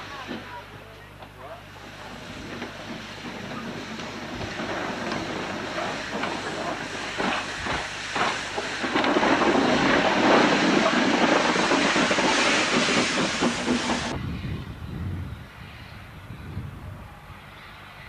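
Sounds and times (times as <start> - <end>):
loud steam hiss: 0.0 - 14.5
steam locomotive passing: 0.0 - 14.8.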